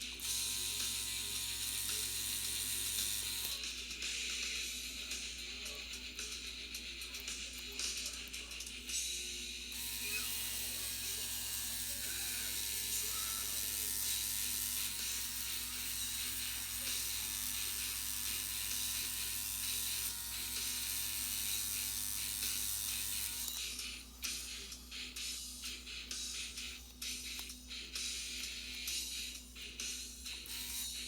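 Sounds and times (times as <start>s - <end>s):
tattoo machine buzzing: 0.0s - 4.2s, 9.7s - 31.0s.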